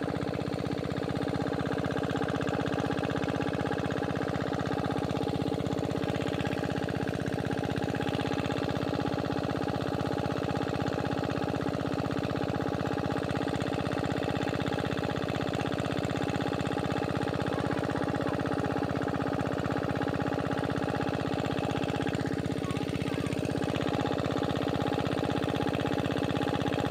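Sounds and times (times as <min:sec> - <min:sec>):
diesel pump engine running: 0:00.0 - 0:26.9.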